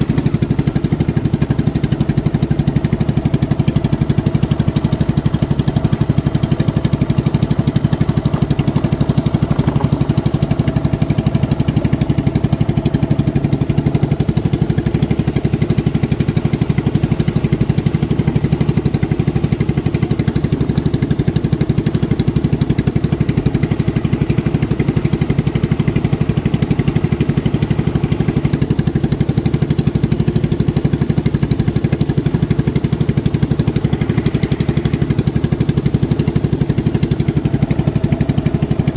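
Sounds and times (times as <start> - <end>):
boat engine running at speed: 0.0 - 38.9.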